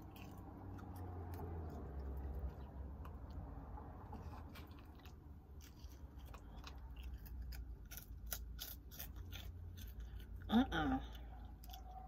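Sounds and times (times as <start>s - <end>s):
person chewing crunchy cereal: 0.0s - 12.0s.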